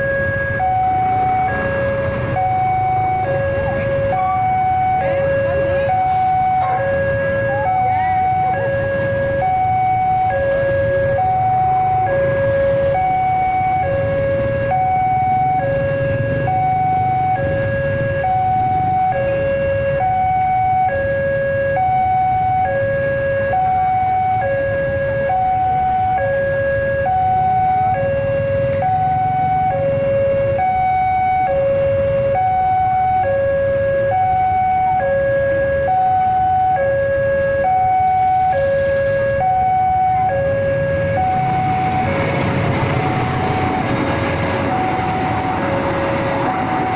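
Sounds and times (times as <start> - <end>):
level crossing two-tone alarm: 0.0 - 42.4, 43.0 - 46.9.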